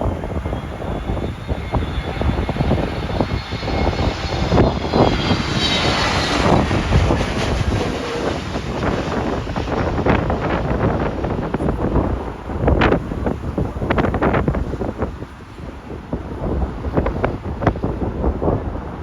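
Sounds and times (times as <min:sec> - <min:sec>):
jet airliner passing overhead: 0:00.0 - 0:19.0
wind buffeting microphone: 0:00.0 - 0:19.0.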